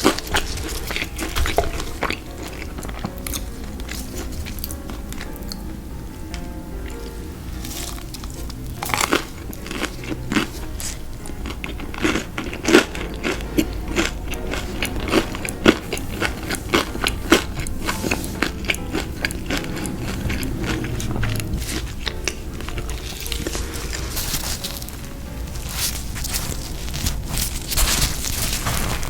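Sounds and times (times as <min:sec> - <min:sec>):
crunchy food bites and chewing: 0:00.0 - 0:05.6, 0:07.6 - 0:29.0.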